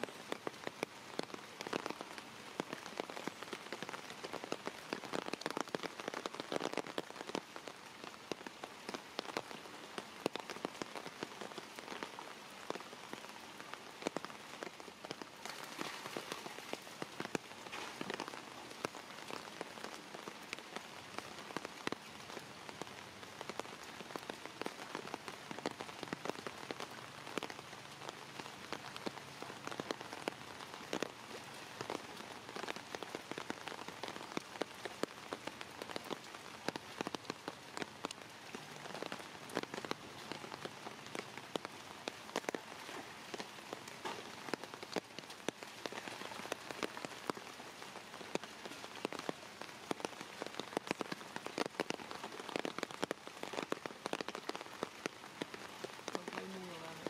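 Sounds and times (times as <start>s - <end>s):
rain on water and stone paving: 0.0s - 57.0s.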